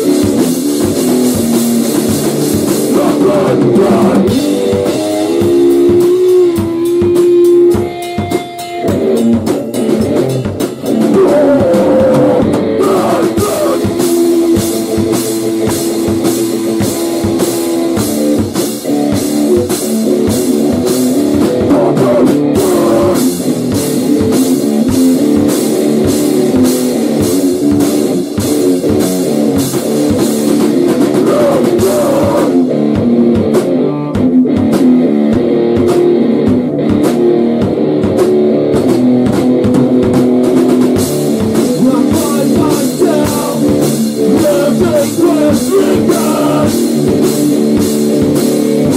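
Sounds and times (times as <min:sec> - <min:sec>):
electric guitar: 0:00.0 - 0:48.9
fast pounding drum kit: 0:00.0 - 0:48.9.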